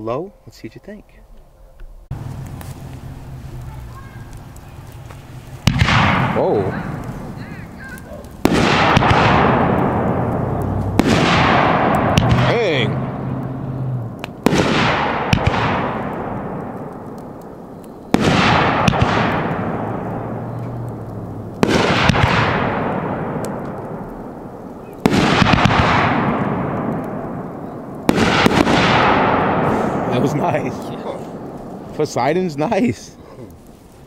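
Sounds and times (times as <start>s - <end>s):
firework bursts: 2.1s - 34.0s.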